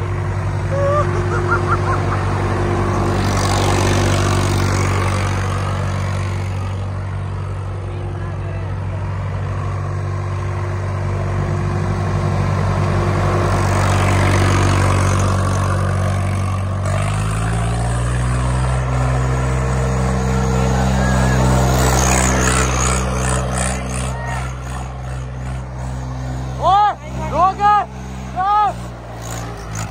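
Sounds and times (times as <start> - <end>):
tractor diesel engine under load: 0.0 - 29.9.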